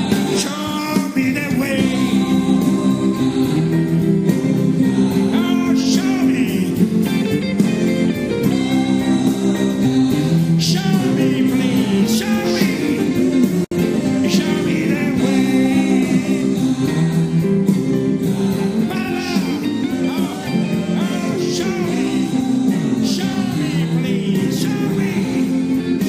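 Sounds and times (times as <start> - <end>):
song with singing and guitar: 0.0 - 26.0.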